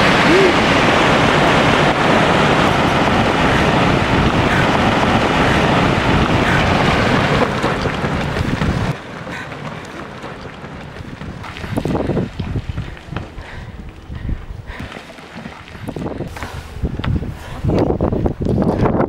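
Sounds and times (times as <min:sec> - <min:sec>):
rockfall rumble: 0:00.0 - 0:19.0.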